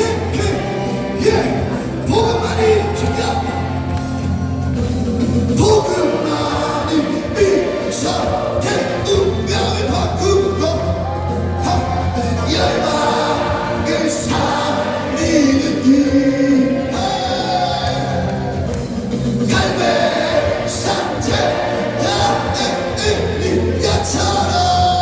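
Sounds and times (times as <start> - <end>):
gospel choir singing with music: 0.0 - 25.0.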